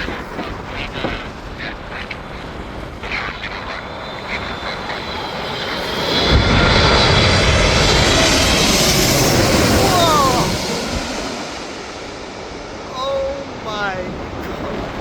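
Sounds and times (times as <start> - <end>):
deep jet rumble: 0.0 - 15.0
jet engine fan whine: 0.1 - 15.0.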